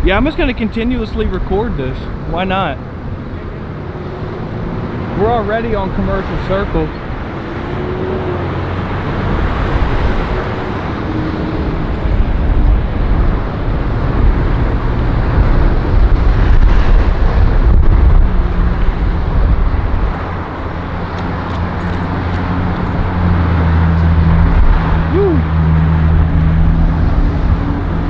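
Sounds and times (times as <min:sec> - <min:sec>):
gusty wind buffeting microphone: 0:00.0 - 0:28.0
road traffic: 0:00.0 - 0:28.0.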